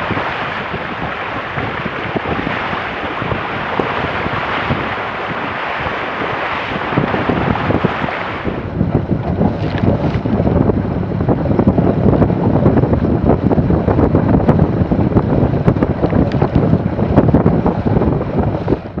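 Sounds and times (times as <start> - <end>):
water rushing along hull: 0.0 - 19.0
wind buffeting microphone: 0.0 - 19.0.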